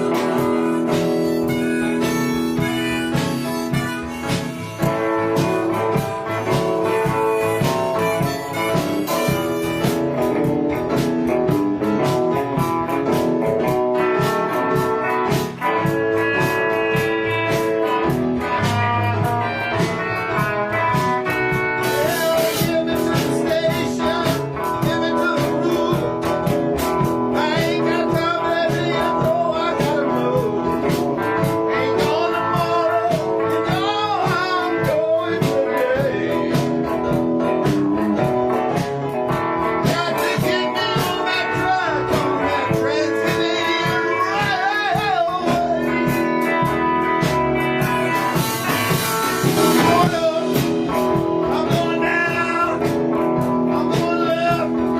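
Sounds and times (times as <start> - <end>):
blues band playing: 0.0 - 54.9.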